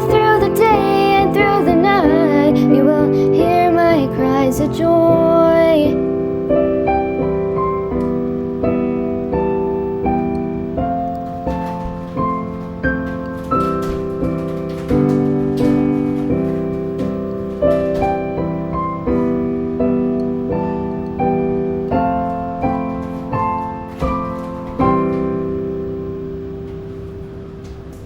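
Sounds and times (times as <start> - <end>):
slow solo piano: 0.0 - 28.0.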